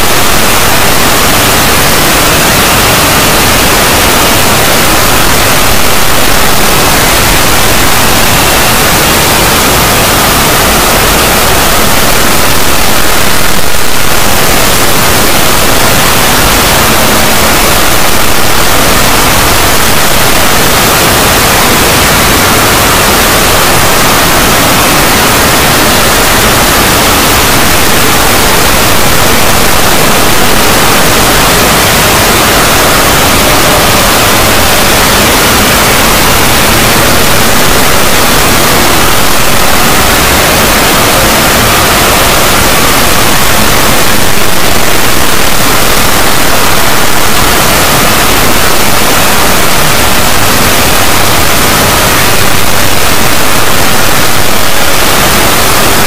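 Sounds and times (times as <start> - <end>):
loud static hiss: 0.0 - 56.0.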